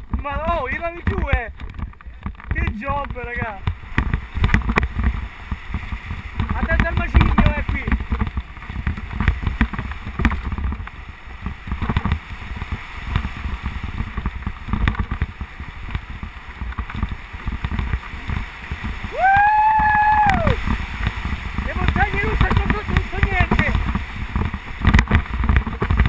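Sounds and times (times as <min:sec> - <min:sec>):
bike knocking and rattling: 0:00.0 - 0:26.0
tyres rumbling on dirt: 0:00.0 - 0:26.0
wind buffeting microphone: 0:00.0 - 0:26.0.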